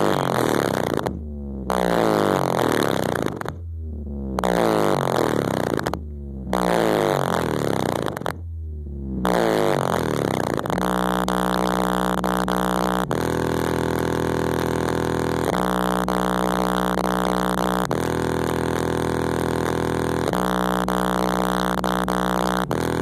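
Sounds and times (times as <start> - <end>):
buzzing subwoofer bass notes: 0.0 - 23.0.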